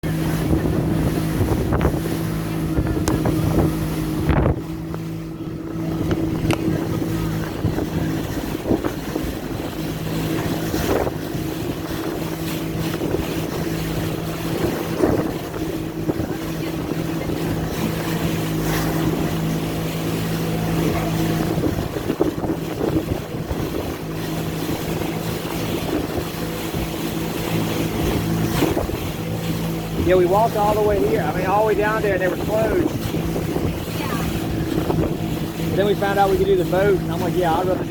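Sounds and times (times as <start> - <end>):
motorboat engine humming: 0.0 - 37.9
wind noise on microphone: 0.0 - 37.9.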